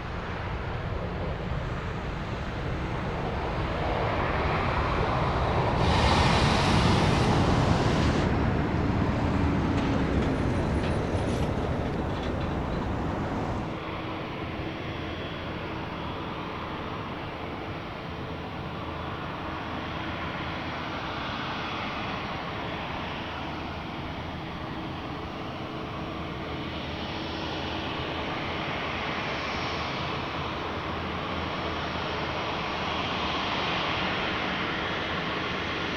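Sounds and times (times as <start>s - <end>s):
jet airliner engine roar: 0.0s - 35.9s.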